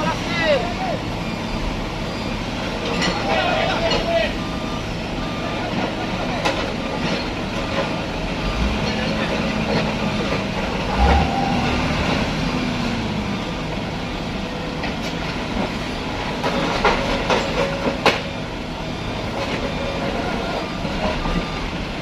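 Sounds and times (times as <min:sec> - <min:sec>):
truck engine hum: 0:00.0 - 0:22.0.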